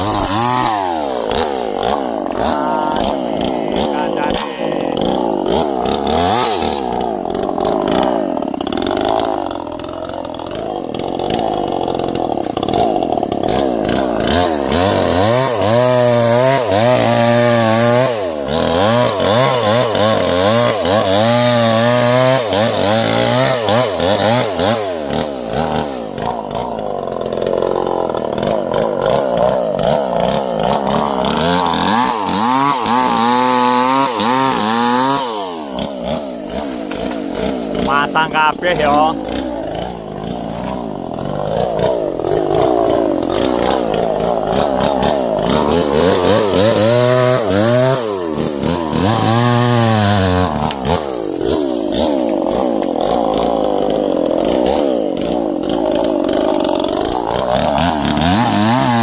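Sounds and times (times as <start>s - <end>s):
chainsaw cutting trees: 0.0s - 59.0s.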